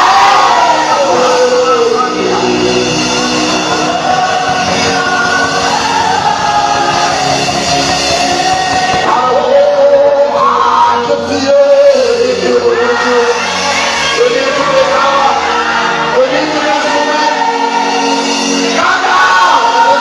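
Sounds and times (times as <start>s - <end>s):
instrumental accompaniment: 0.0s - 20.0s
voices singing gospel: 0.0s - 20.0s.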